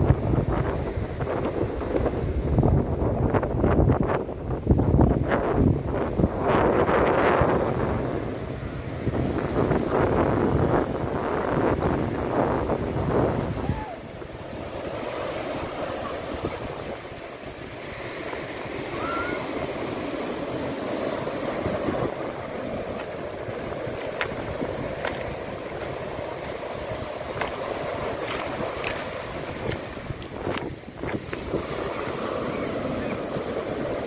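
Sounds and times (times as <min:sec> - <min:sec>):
waves rushing ashore: 0:00.0 - 0:34.0.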